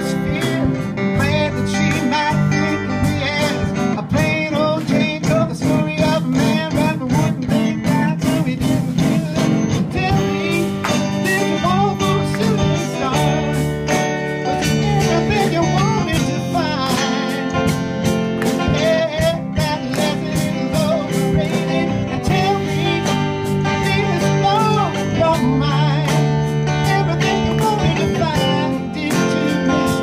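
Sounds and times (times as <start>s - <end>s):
drum kit beat: 0.0s - 30.0s
electric guitar: 0.0s - 30.0s
keyboard: 0.0s - 30.0s
man singing lead vocal: 0.0s - 30.0s.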